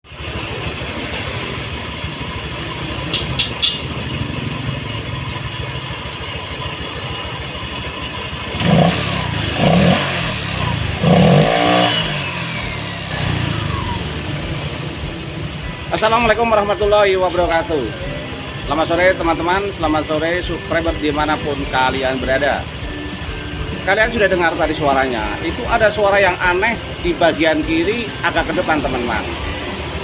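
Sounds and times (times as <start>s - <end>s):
scooter engine idling and revving: 0.0s - 30.0s
strange mechanical noise: 0.1s - 30.0s.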